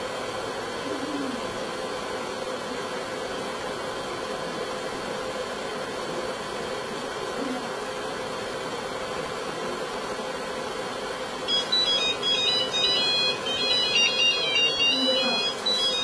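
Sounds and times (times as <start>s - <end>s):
faint hum: 0.0s - 16.0s
steady hiss: 0.0s - 16.0s.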